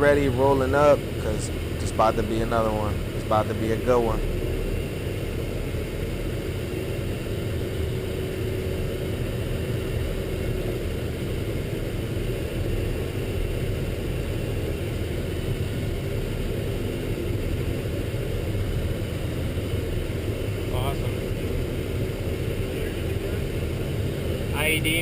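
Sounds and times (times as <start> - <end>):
faint steady whine: 0.0 - 25.0
truck engine running: 0.0 - 25.0.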